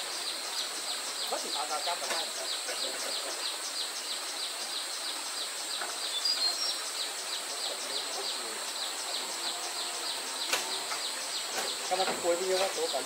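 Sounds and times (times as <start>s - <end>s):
constant high-pitched buzz: 0.0s - 13.0s
insects chirping: 0.0s - 13.0s.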